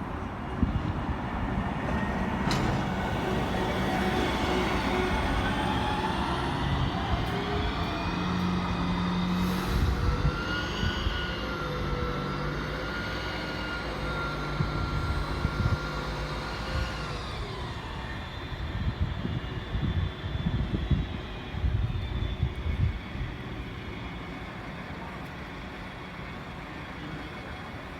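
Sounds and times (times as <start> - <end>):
large vehicle whining: 0.1 - 27.9.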